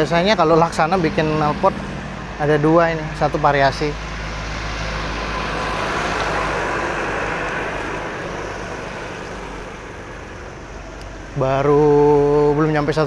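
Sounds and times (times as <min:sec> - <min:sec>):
motor vehicle rushing hum: 0:00.0 - 0:13.0.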